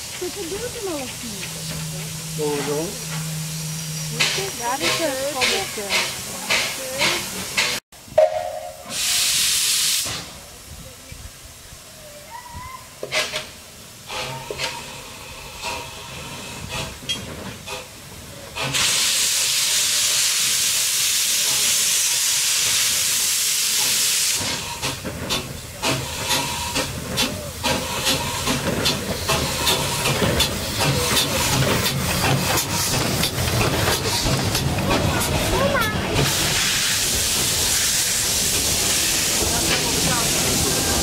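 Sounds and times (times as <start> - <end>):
steam locomotive chuffing: 0.0 - 10.7, 13.0 - 41.0
steam hissing from locomotive: 0.0 - 41.0.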